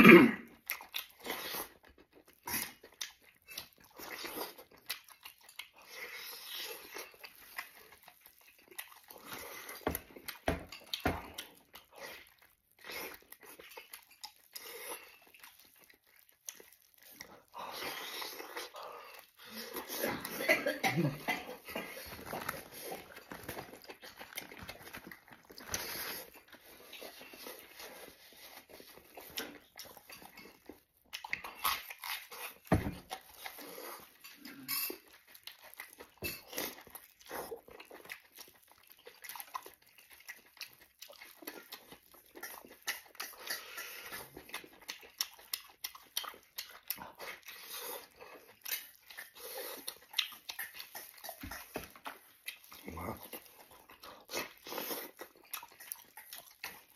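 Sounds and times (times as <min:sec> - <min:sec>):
chewing and smacking meat: 0:00.5 - 0:56.9.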